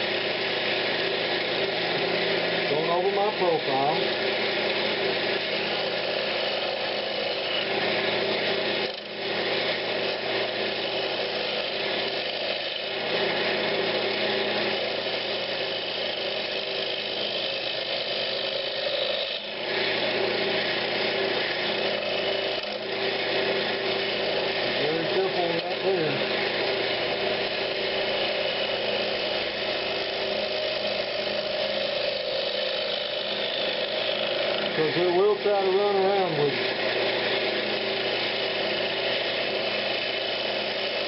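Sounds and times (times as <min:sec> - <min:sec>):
turning tool cutting wood: 0:00.0 - 0:41.0
wood lathe humming: 0:00.0 - 0:41.0.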